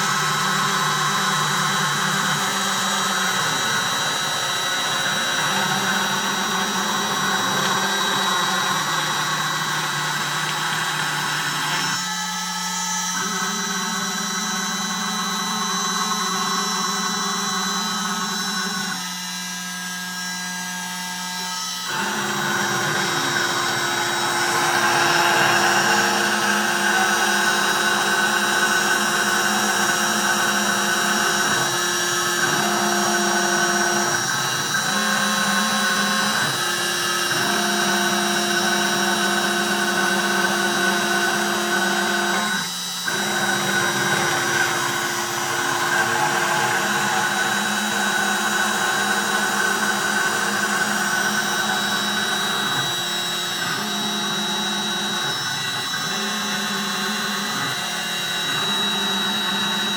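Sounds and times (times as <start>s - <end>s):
end mill cutting acrylic: 0.0s - 59.9s
router spindle whine: 0.0s - 59.9s.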